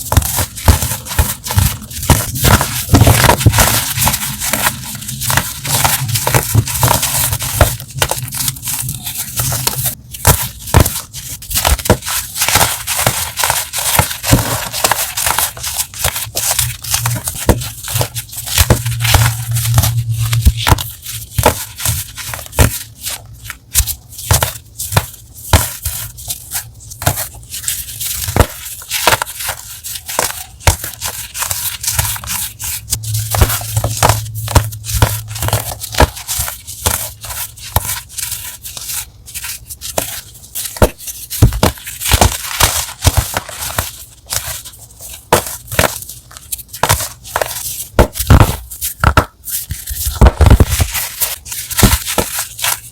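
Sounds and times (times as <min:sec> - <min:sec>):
chalk being crushed: 0:00.0 - 0:52.9.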